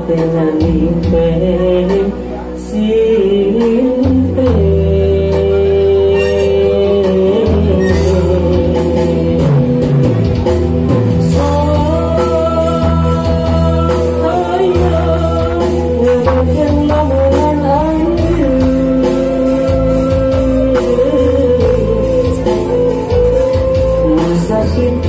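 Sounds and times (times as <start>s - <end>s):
backing music with beat and bass: 0.0s - 25.0s
man singing into a microphone: 0.0s - 25.0s.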